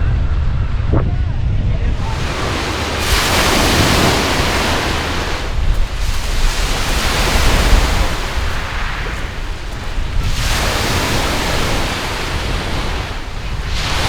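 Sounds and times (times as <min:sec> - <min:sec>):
wind buffeting microphone: 0:01.9 - 0:14.0
waves rushing on shore: 0:02.0 - 0:14.0.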